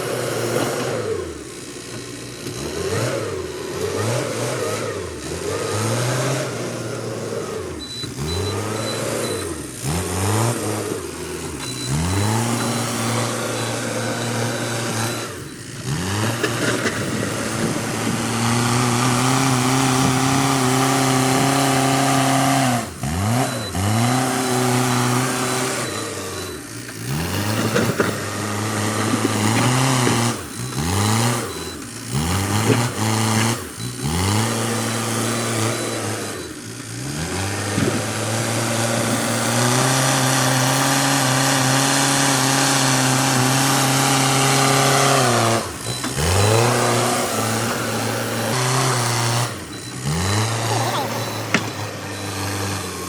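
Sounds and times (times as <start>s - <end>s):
diesel engine running hard: 0.0s - 53.0s.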